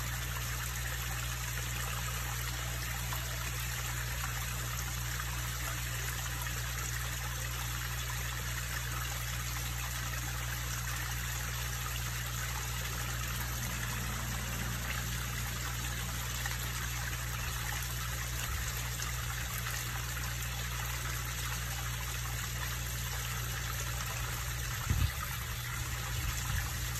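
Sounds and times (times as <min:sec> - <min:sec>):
steady low hum: 0:00.0 - 0:26.9
waterfall splashing into pond: 0:00.0 - 0:26.9.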